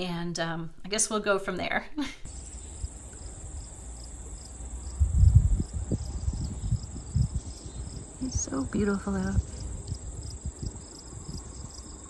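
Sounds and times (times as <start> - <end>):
insects trilling: 2.3 - 12.0
wind buffeting microphone: 2.3 - 12.0.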